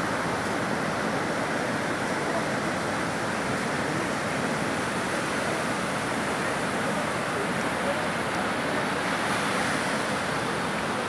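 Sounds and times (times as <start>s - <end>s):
surf on sandy beach: 0.0s - 11.0s.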